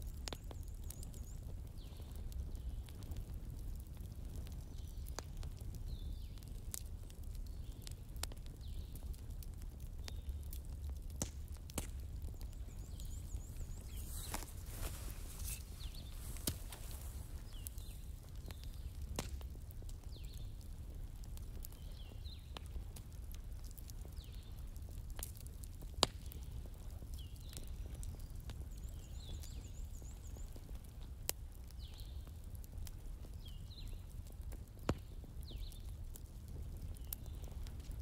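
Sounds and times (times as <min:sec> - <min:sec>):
crackling wood fire: 0:00.0 - 0:38.0.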